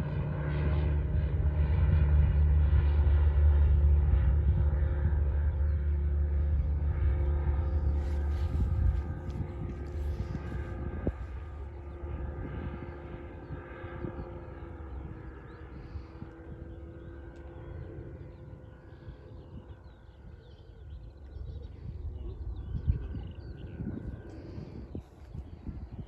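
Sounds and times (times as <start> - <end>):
propeller aircraft engine droning: 0.0 - 26.0.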